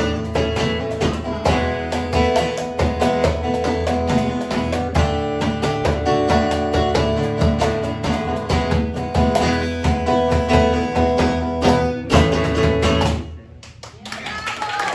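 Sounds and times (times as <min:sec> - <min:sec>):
acoustic guitar strumming: 0:00.0 - 0:13.5.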